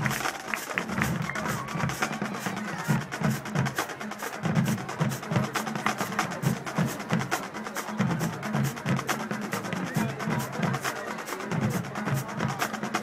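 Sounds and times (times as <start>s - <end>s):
bass drum beats: 0.0s - 13.0s.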